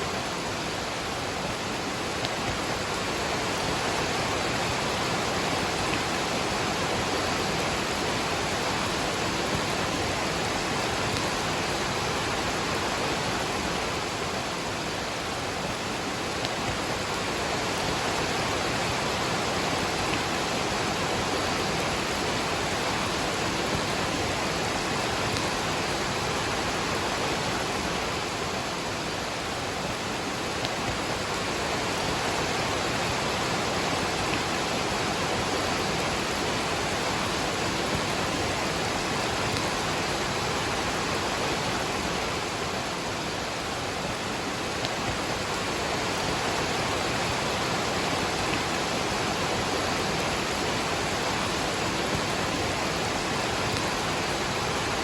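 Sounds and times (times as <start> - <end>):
rain falling: 0.0 - 55.0
waterfall rushing: 0.0 - 55.0.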